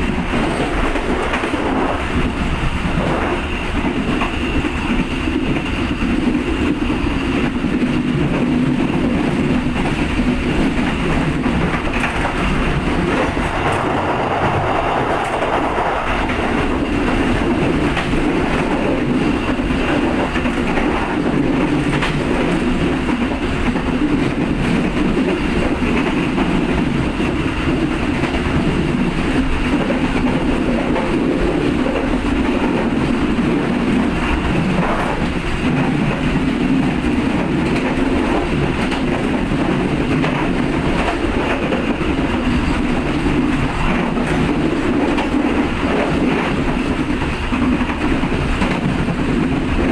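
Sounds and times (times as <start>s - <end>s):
train wheels rumbling on track: 0.0s - 49.9s.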